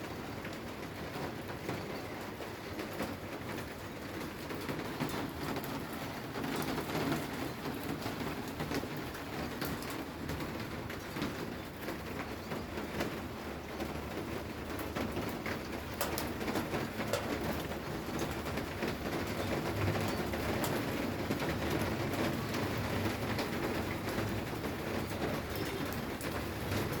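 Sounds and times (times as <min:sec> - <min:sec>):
raindrops hitting close by: 0:00.0 - 0:27.0
steady rain falling: 0:00.0 - 0:27.0.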